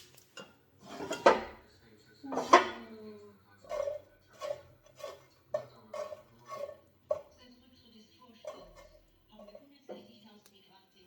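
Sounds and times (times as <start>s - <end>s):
metal cookware clattering: 0.3s - 7.6s, 8.3s - 10.2s.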